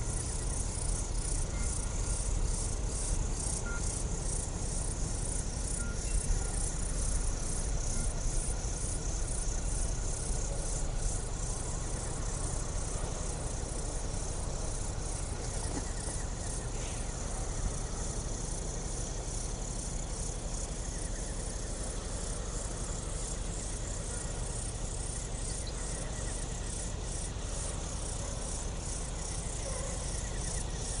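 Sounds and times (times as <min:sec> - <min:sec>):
low steady rumble: 0:00.0 - 0:30.0
insects chirping in pulses: 0:00.0 - 0:31.0.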